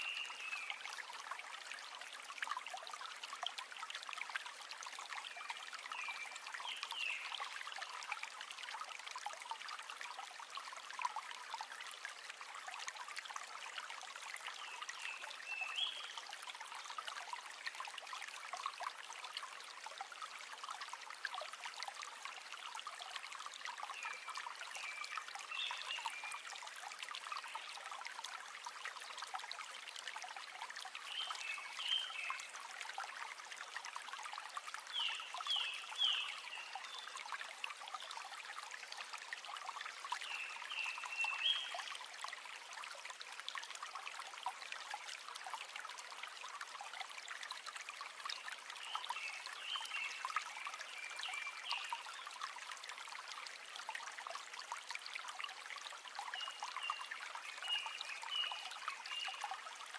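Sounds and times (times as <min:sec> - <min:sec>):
river flowing and trickling: 0:00.0 - 0:59.9.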